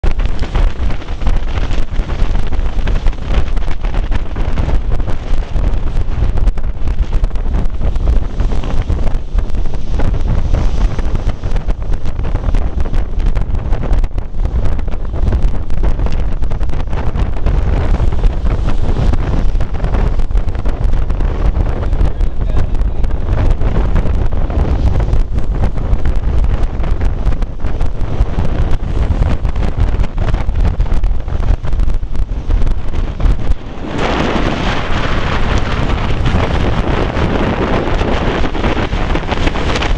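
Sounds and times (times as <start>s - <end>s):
wind buffeting microphone: 0.0s - 39.9s
waves crashing against rock: 0.1s - 39.9s.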